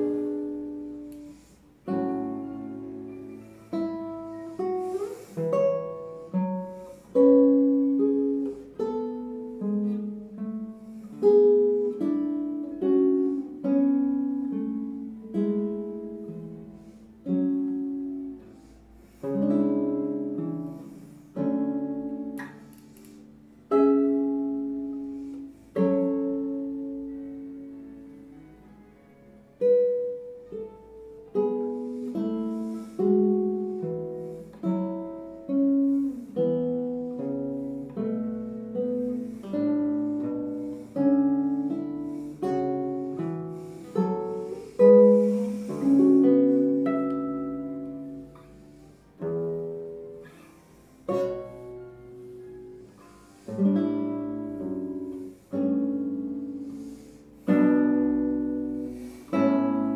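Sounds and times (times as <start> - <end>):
classical guitar playing: 0.0 - 59.9.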